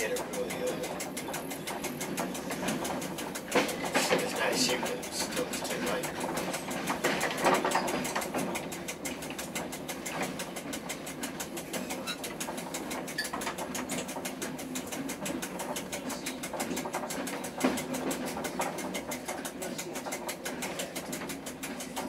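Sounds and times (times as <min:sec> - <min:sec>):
fast mechanical ticking: 0:00.0 - 0:22.0
train running noise: 0:00.0 - 0:22.0.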